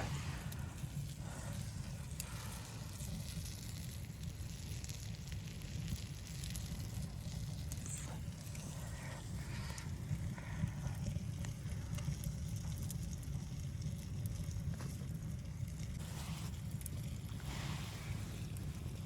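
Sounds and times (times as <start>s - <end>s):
blizzard wind rumbling: 0.0s - 14.5s, 15.8s - 19.0s
wood stove fire crackling: 0.0s - 19.0s.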